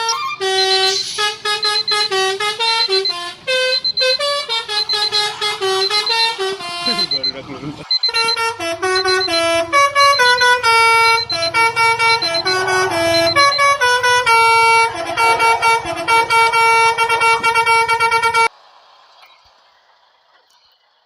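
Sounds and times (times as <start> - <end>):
truck horn playing a melody: 0.0 - 18.5.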